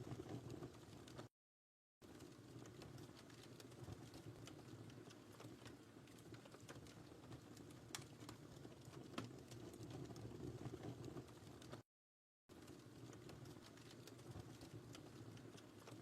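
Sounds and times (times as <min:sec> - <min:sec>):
low rumble of flames: 0:00.0 - 0:01.3, 0:02.1 - 0:11.8, 0:12.6 - 0:16.0
wood fire crackling: 0:00.0 - 0:01.3, 0:02.0 - 0:11.8, 0:12.5 - 0:16.0.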